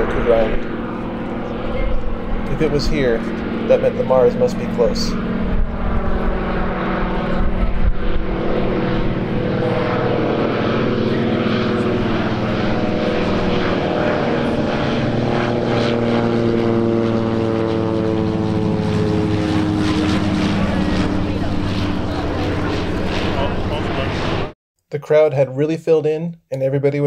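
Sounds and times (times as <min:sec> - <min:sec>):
propeller plane droning past: 0:00.0 - 0:24.6.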